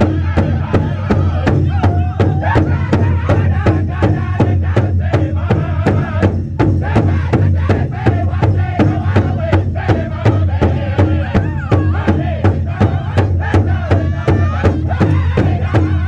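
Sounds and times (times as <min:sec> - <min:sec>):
group singing with raised voices: 0:00.0 - 0:16.0
large hand drum beating: 0:00.0 - 0:16.0.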